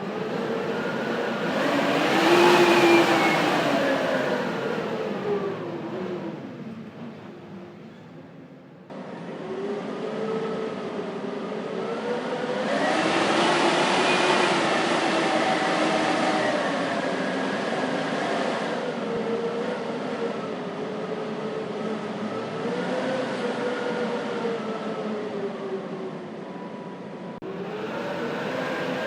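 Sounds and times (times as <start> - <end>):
blizzard wind howling: 0.0 - 7.9, 9.1 - 29.0.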